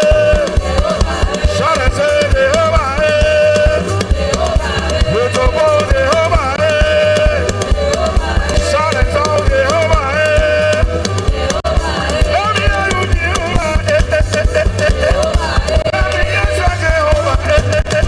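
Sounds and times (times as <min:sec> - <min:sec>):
drum kit and bass beat: 0:00.0 - 0:18.0
person singing: 0:00.0 - 0:18.0.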